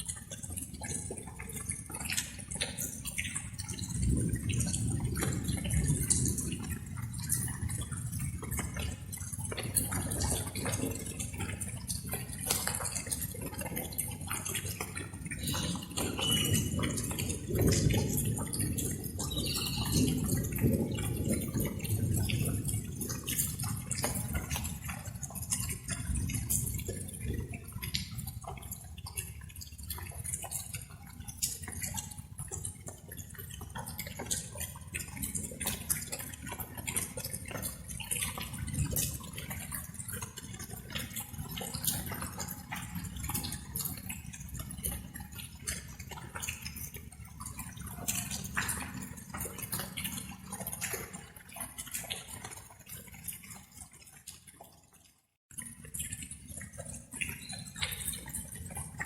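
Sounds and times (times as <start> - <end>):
light rain drops pattering: 0.0 - 59.0.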